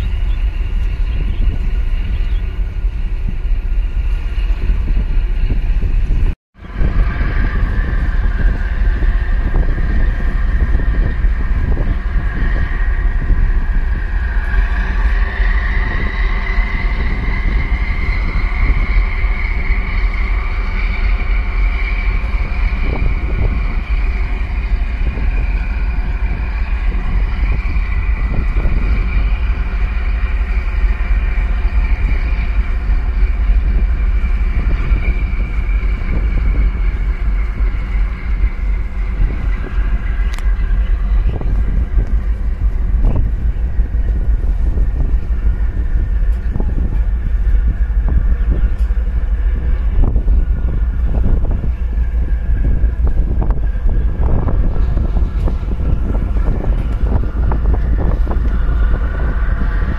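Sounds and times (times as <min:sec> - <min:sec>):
faint high whine: 0:00.0 - 0:59.9
ship engines droning: 0:00.0 - 0:59.9
wind buffeting microphone: 0:00.0 - 0:59.9.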